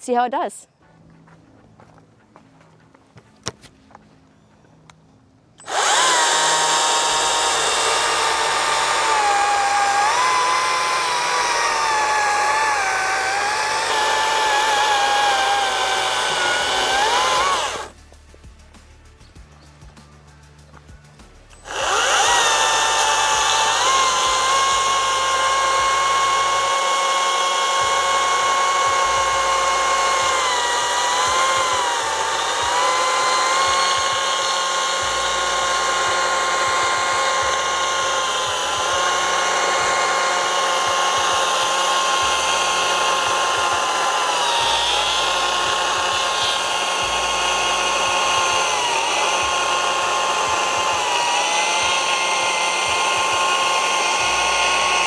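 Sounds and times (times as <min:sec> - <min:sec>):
electric chainsaw cutting log: 0:05.6 - 0:18.0, 0:21.6 - 0:55.0.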